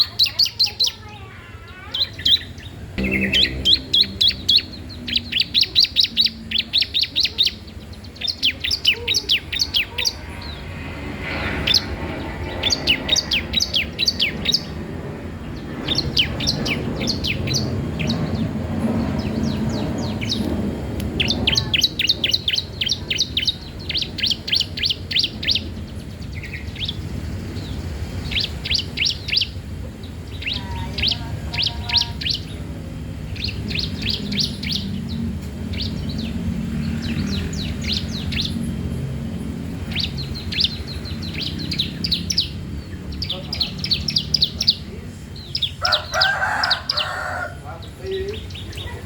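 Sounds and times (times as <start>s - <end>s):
songbird chirping: 0.0s - 49.0s.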